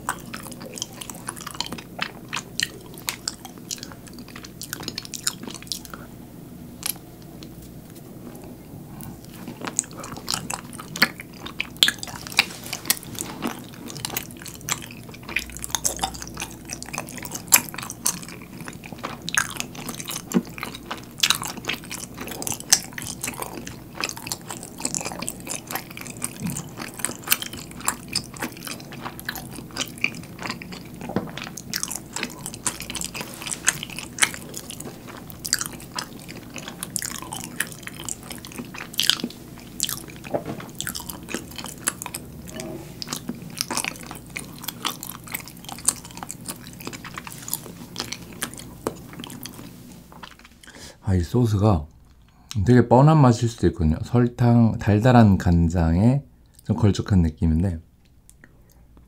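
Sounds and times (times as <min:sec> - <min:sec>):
person chewing with mouth clicks: 0:00.0 - 0:06.2, 0:06.8 - 0:50.8, 0:58.0 - 0:59.0.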